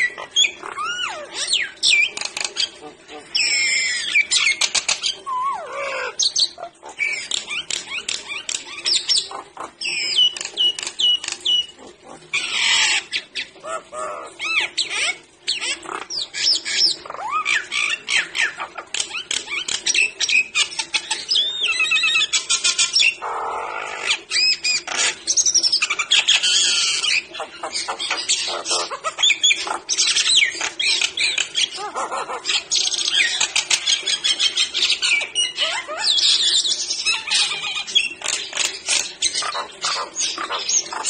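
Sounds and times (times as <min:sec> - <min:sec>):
myna bird whistling and squawking: 0:00.0 - 0:41.0.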